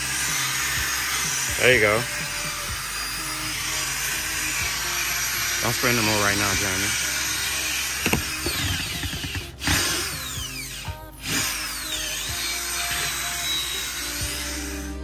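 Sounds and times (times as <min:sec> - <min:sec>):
background music: 0:00.0 - 0:15.0
power scrubber whirring: 0:00.0 - 0:15.0.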